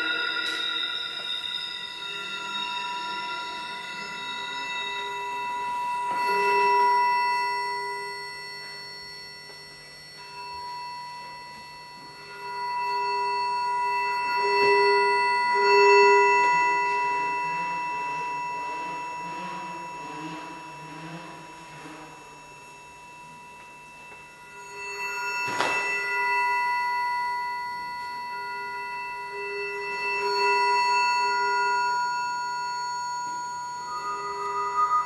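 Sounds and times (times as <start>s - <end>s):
electronic drone tones: 0.0s - 35.0s.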